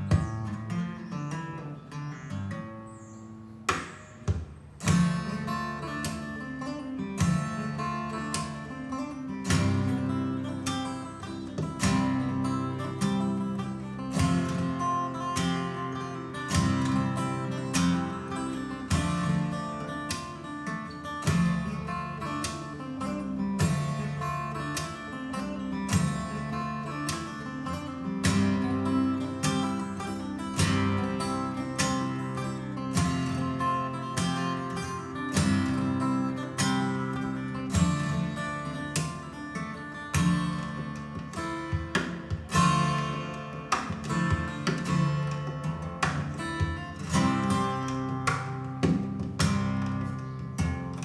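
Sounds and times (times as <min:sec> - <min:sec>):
acoustic guitar music over loudspeaker: 0:00.0 - 0:51.0.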